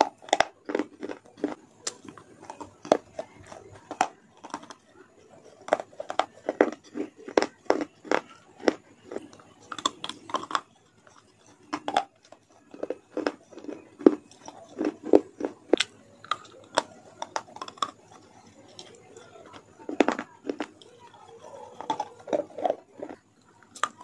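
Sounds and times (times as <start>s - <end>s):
chewing crunchy leafy greens: 0.0s - 24.0s.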